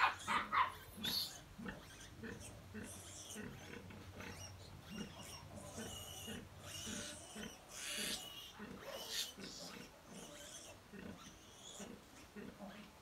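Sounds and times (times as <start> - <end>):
piglets squealing: 0.0 - 12.4
sow grunting: 0.0 - 12.9.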